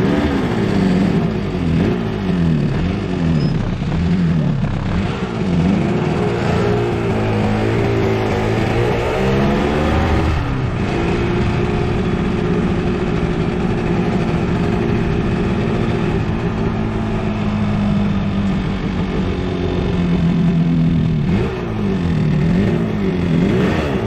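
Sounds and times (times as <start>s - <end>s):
two-stroke motorcycle engine: 0.0s - 24.0s.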